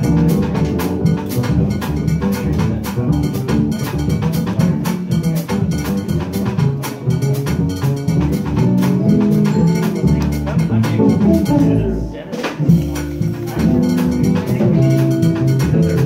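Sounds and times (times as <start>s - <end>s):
drum and cymbal strokes: 0.0s - 16.0s
jazz trio playing: 0.0s - 16.0s
plucked double bass: 0.0s - 16.0s.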